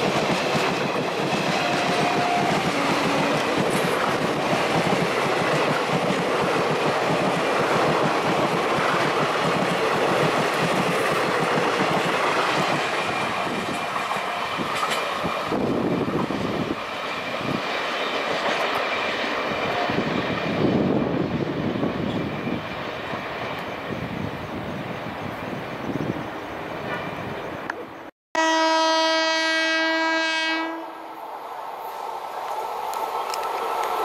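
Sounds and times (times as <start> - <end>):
train rattling on rails: 0.0 - 28.1, 31.1 - 34.0.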